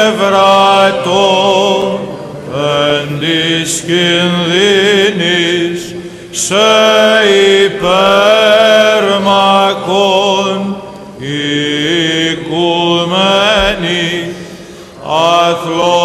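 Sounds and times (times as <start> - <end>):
chanting in ornamented phrases: 0.0 - 16.0.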